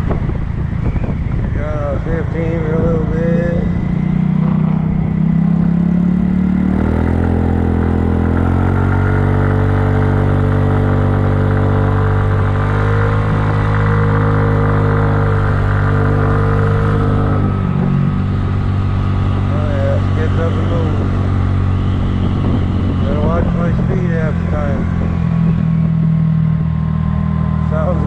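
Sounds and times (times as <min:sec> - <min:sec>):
scooter engine and exhaust: 0:00.0 - 0:28.0.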